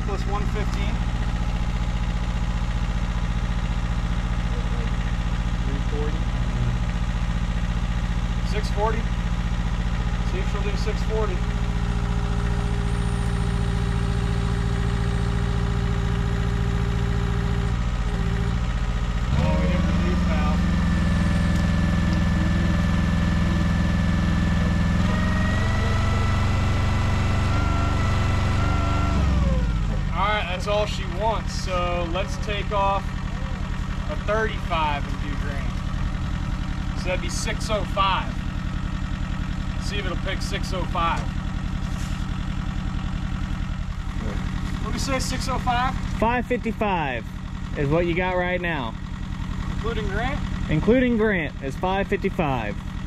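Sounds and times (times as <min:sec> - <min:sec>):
hydraulic whine: 0:00.0 - 0:46.3
mini excavator engine running: 0:00.0 - 0:53.0.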